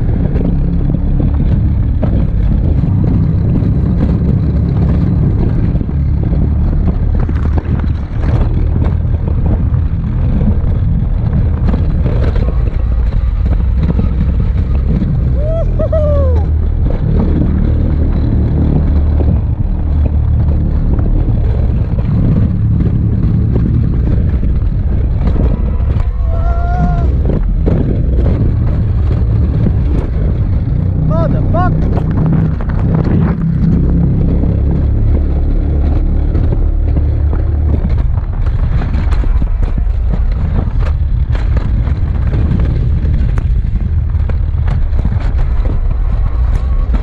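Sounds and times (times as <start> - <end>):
sled wheels rumbling on rail: 0.0 - 47.0.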